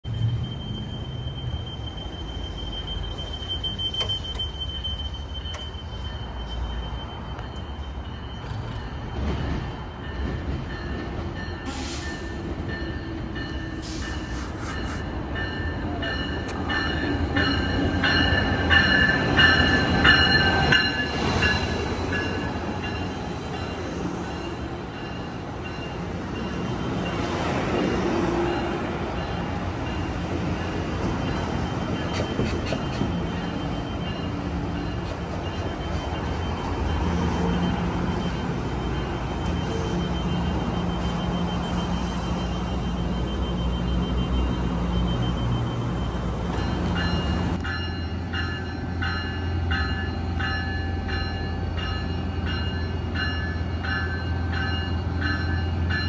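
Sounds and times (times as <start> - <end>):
high-pitched train squeal: 0.0 - 56.0
passenger train rumbling: 0.0 - 56.0.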